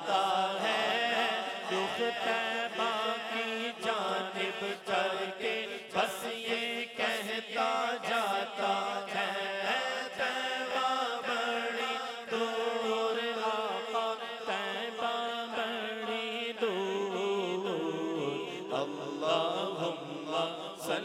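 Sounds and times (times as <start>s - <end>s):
drone of background voices: 0.0s - 21.0s
man singing into a microphone: 0.0s - 21.0s.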